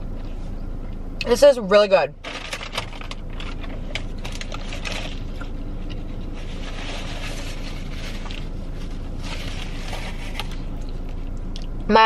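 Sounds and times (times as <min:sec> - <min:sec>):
steady hiss and hum: 0:00.0 - 0:12.0.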